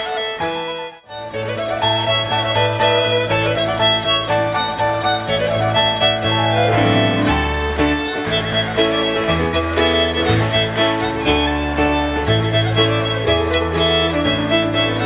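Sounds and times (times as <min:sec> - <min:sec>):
fiddle playing a reel: 0:00.0 - 0:15.0
piano bass: 0:00.0 - 0:15.0.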